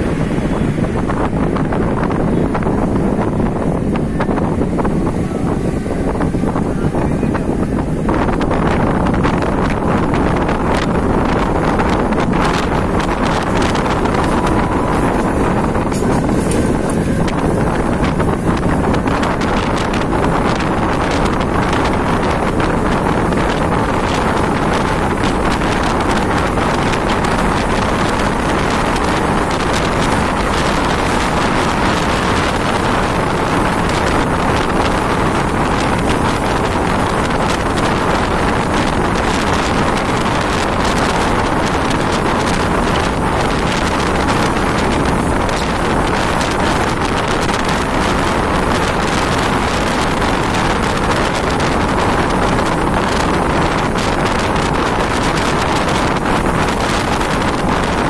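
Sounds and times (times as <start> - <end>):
train rumble and rail clatter: 0.0 - 58.0
wind buffeting microphone: 0.0 - 58.0.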